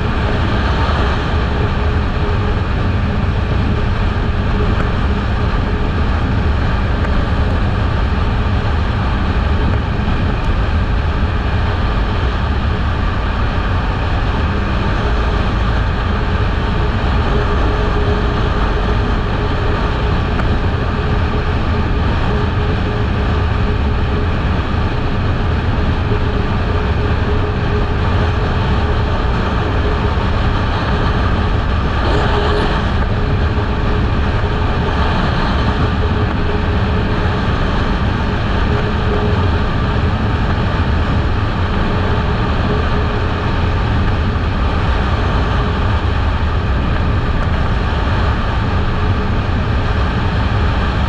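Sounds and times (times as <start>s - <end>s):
wind noise: 0.0s - 51.0s.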